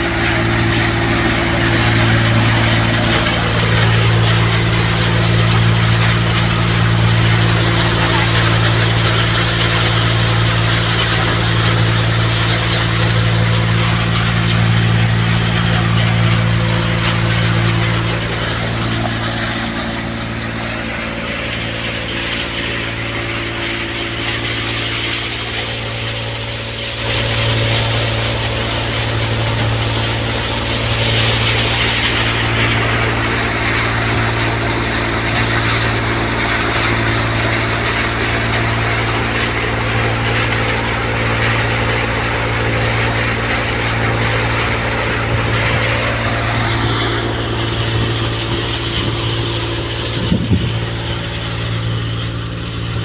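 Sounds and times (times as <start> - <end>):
thresher rushing noise: 0.0 - 53.0
tractor engine drone: 0.0 - 53.0.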